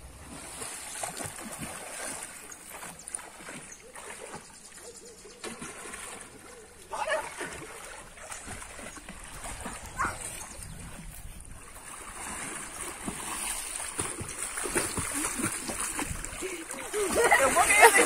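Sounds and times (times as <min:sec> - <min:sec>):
people swimming splashing water: 0:00.0 - 0:18.0.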